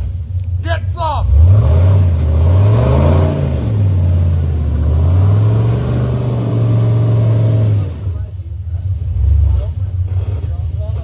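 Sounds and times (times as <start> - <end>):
engine revving under load: 1.2 - 11.0.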